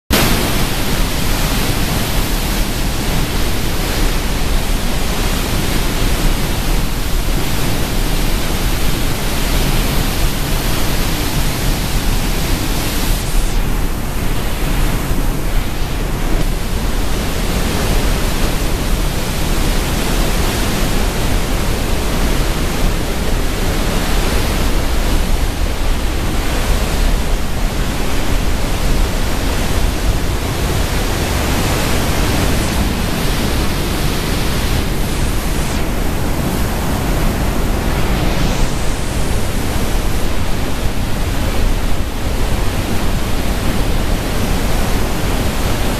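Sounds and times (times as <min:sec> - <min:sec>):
waterfall rushing: 0:00.1 - 0:45.9.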